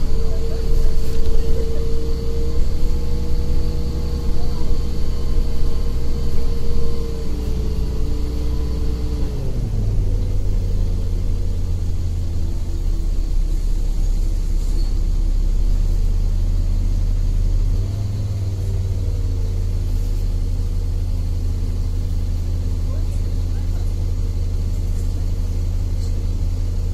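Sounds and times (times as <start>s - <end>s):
bus engine and tyre rumble: 0.0s - 26.9s.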